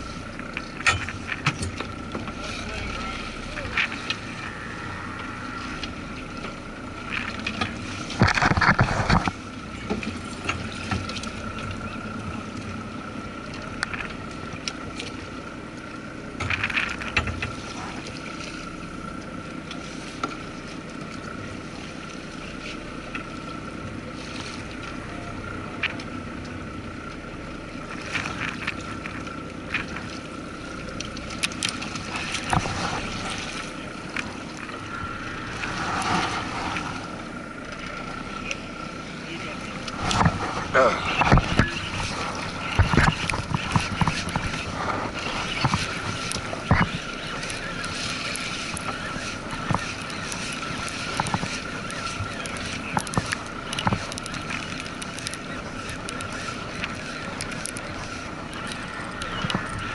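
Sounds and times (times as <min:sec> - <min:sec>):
steady thin whine: 0:00.0 - 0:59.9
water lapping against boat hull: 0:00.0 - 0:59.9.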